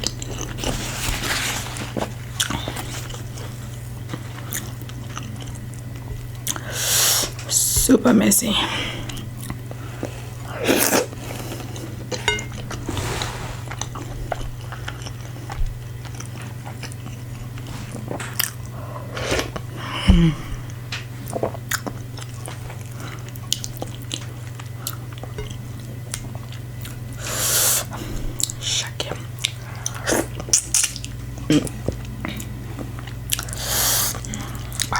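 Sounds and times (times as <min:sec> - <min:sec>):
person chewing and eating: 0:00.0 - 0:01.0, 0:01.7 - 0:06.8, 0:09.1 - 0:34.9
steady low hum: 0:00.0 - 0:34.9.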